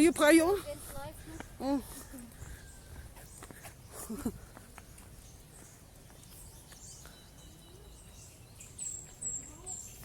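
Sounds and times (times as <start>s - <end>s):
small bird chirping: 1.2s - 10.0s.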